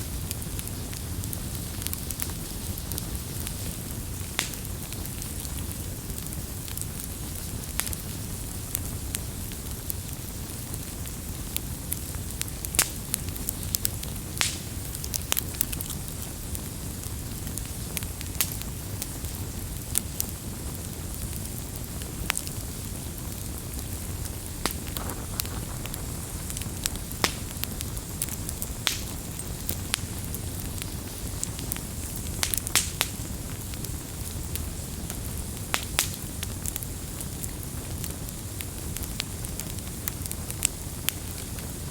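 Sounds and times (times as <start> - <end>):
campfire burning: 0.0 - 41.9
wood crackling and popping: 0.0 - 41.9.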